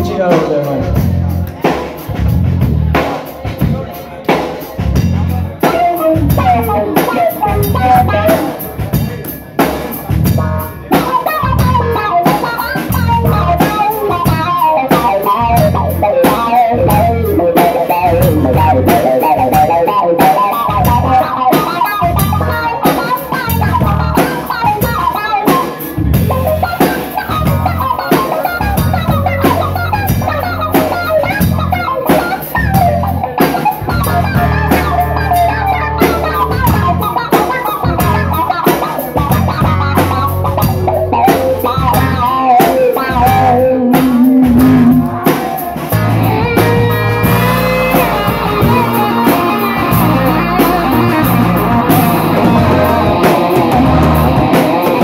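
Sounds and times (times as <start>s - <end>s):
drum kit beat: 0.0s - 55.0s
guitar lines: 0.0s - 55.0s.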